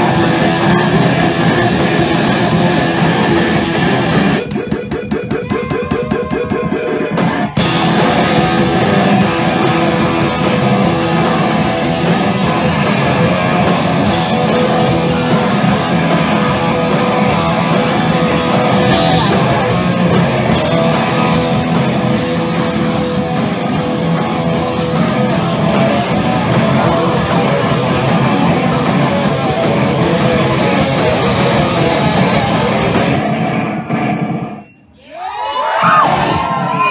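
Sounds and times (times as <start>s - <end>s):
electric guitar: 0.0s - 34.6s
live punk rock band: 0.0s - 34.8s.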